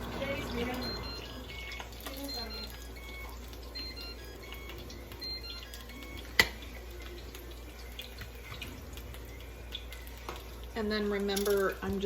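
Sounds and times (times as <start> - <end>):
taco sizzling in frying oil: 0.0 - 12.0.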